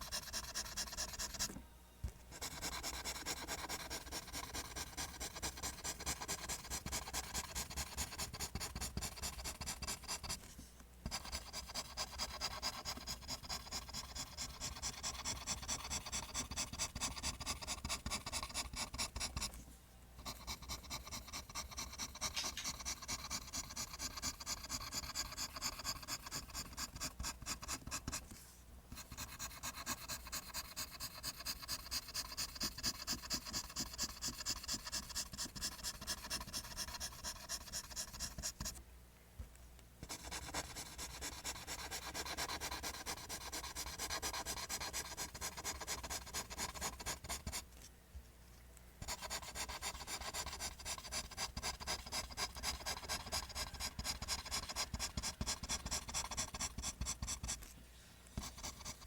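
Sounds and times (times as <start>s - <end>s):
pencil scratching on paper: 0.0s - 1.5s, 2.3s - 19.6s, 20.2s - 38.8s, 40.0s - 47.6s, 49.0s - 57.7s, 58.3s - 59.0s.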